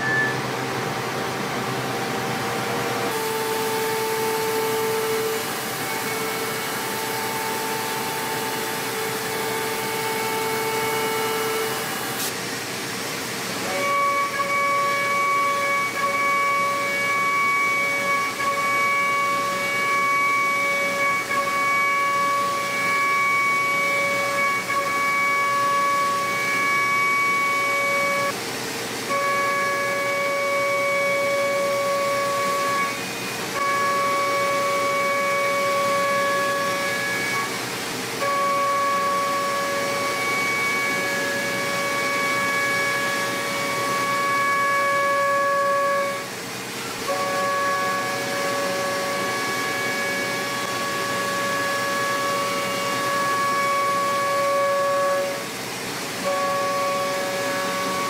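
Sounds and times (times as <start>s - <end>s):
milling machine high-pitched whine: 0.0s - 58.0s.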